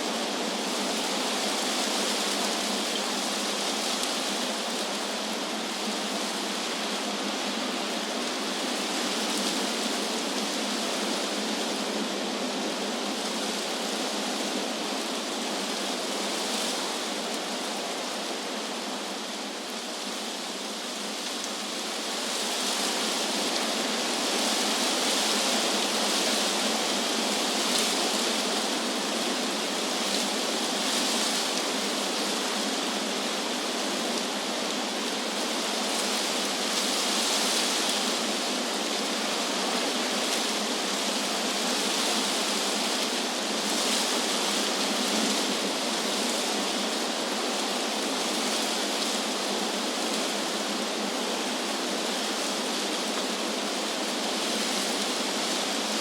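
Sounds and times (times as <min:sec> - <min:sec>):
wind rushing through leaves: 0:00.0 - 0:56.0.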